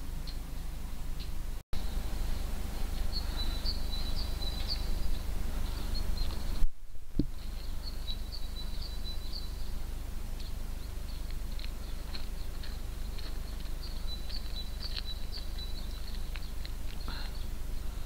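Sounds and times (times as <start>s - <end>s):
faint high chirps and ticks: 0.2s - 18.0s.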